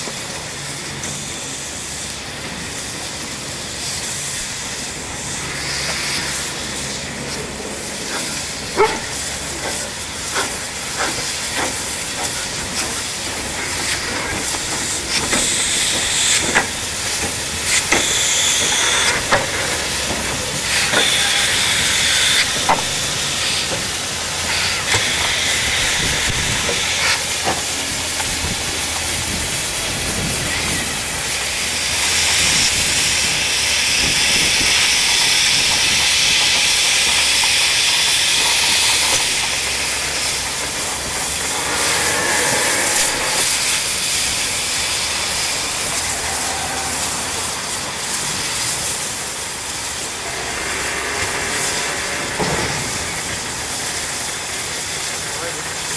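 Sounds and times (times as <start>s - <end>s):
steam blowing from drain cocks: 0.0s - 55.9s
steam locomotive hissing steam: 0.0s - 55.9s.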